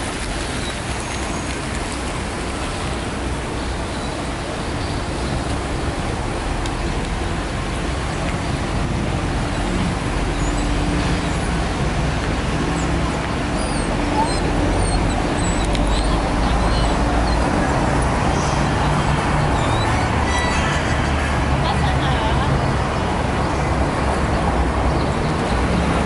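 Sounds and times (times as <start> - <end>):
passing cars and buses: 0.0 - 26.0.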